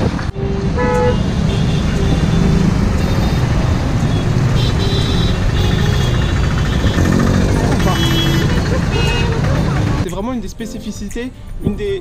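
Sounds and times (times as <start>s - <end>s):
motorcycle engines rumbling: 0.0s - 10.6s.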